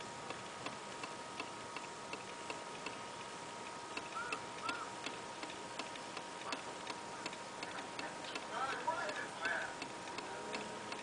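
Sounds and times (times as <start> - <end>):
faint steady hum: 0.0 - 11.0
steady ticking: 0.0 - 11.0.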